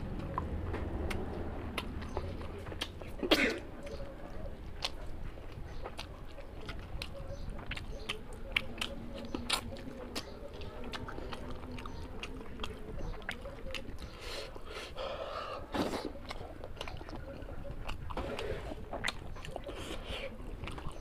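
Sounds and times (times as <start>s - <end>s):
chewing and lip-smacking: 0.0s - 21.0s.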